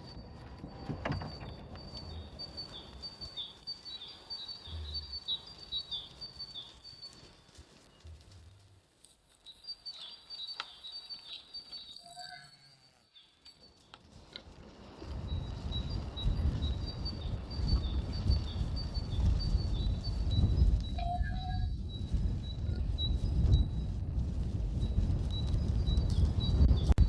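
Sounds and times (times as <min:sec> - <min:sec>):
songbird chirping: 0:00.0 - 0:23.8.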